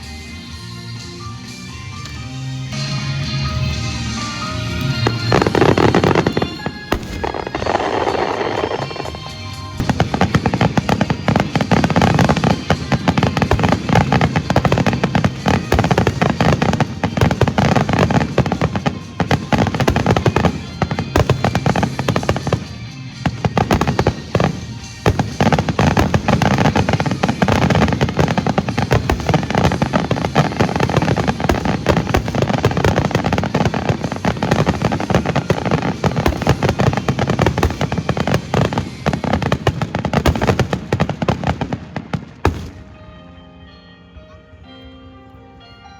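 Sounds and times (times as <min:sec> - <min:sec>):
fireworks bursts: 0:00.0 - 0:43.2.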